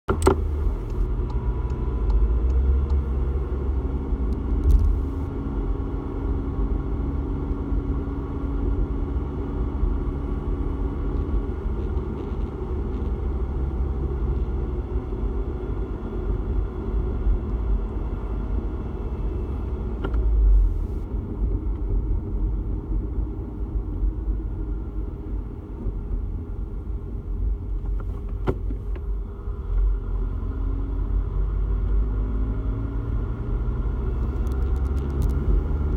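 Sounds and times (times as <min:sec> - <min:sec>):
road and engine rumble: 0:00.0 - 0:35.9.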